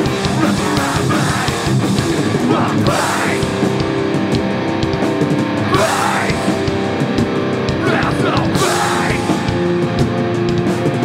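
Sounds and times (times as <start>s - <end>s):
hardcore band playing live: 0.0s - 11.0s.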